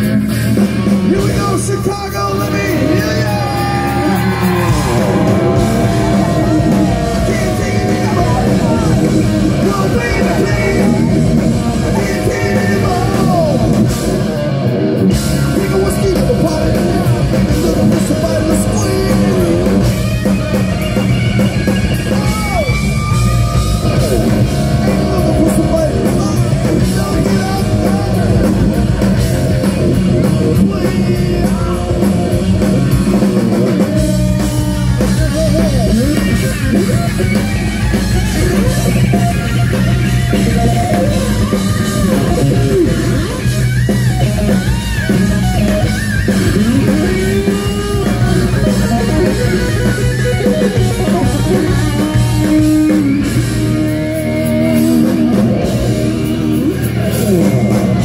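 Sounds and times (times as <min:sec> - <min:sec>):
bass guitar: 0:00.0 - 0:58.0
distorted electric guitar: 0:00.0 - 0:58.0
drum kit: 0:00.0 - 0:58.0
gliding guitar lead line: 0:00.0 - 0:58.0.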